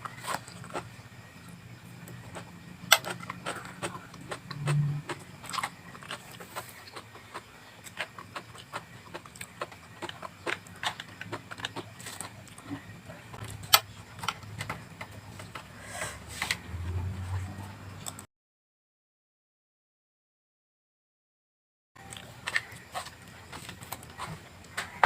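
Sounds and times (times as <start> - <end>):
chewing vegetables: 0.0 - 18.2, 22.0 - 25.0.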